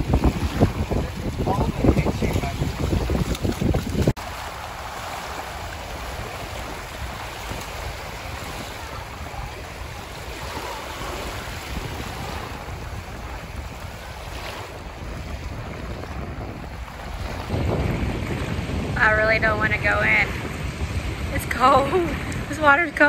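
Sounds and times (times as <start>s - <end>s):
lake waves lapping at shore: 0.0s - 23.0s
wind buffeting microphone: 0.0s - 23.0s.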